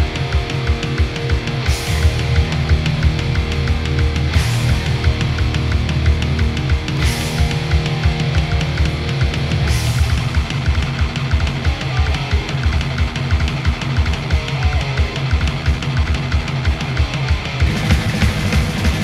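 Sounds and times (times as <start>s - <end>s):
distorted electric guitars: 0.0s - 19.0s
fast drum kit: 0.0s - 19.0s.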